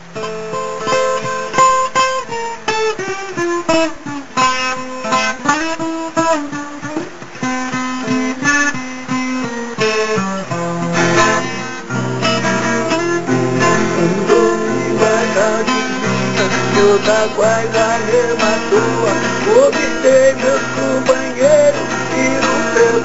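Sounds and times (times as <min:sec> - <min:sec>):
acoustic guitar picking: 0:00.0 - 0:23.0.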